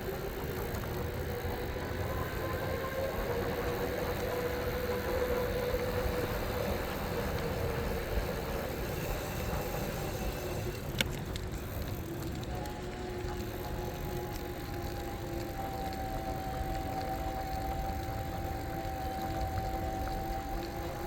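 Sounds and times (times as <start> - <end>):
faint motor whine: 0.0 - 21.0
road and tyre noise: 0.0 - 21.0.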